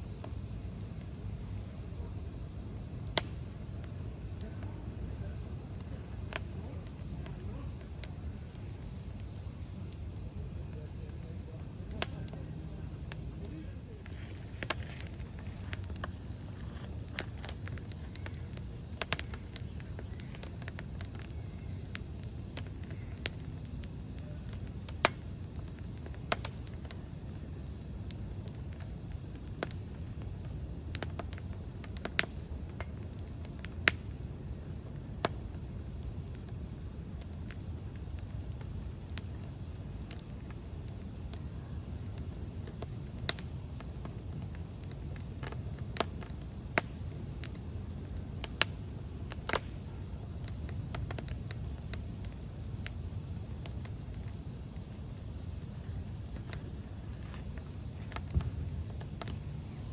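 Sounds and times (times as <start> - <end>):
burning wood crackling and popping: 0.0 - 59.9
campfire burning with low rumble: 0.0 - 59.9
crickets chirping: 0.0 - 59.9.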